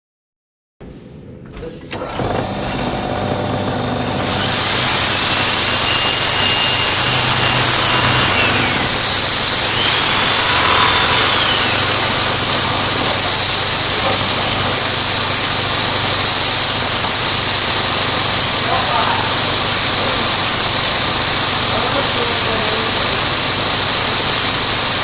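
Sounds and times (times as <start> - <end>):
machine tool high-pitched whine: 1.5 - 25.0.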